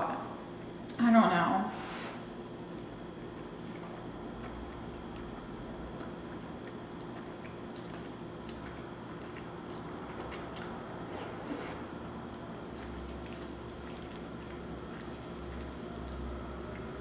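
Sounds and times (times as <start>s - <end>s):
low background hum: 0.0s - 17.0s
slurping and chewing spaghetti: 2.5s - 17.0s.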